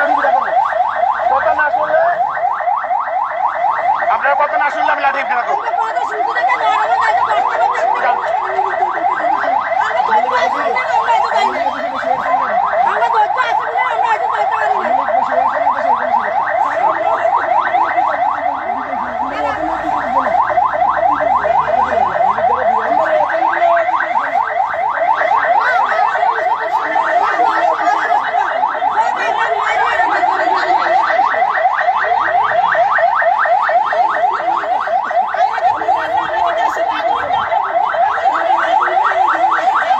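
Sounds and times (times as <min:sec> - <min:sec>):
electronic alarm tone warbling: 0:00.0 - 0:39.9
faint voices: 0:00.0 - 0:39.9.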